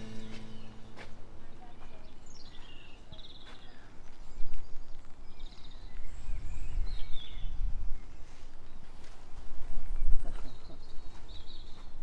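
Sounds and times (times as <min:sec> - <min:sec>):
small birds chirping: 0:00.0 - 0:08.9, 0:09.8 - 0:12.0.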